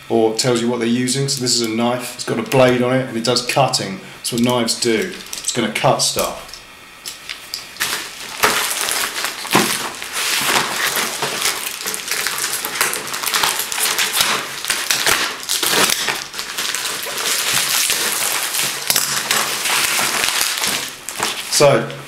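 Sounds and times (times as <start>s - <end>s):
plastic bag crinkling and tearing: 4.3s - 22.0s.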